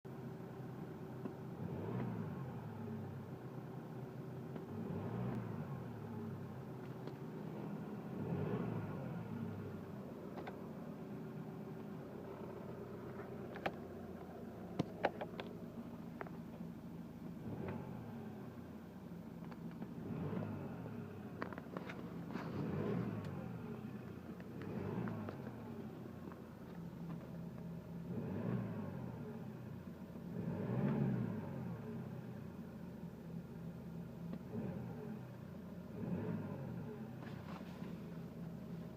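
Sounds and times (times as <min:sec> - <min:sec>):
engine idling: 0:00.1 - 0:30.6, 0:31.4 - 0:38.9.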